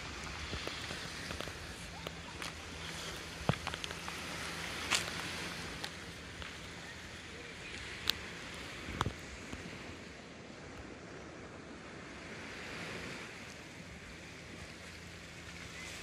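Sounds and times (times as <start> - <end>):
sea surf washing on beach: 0.0 - 16.0.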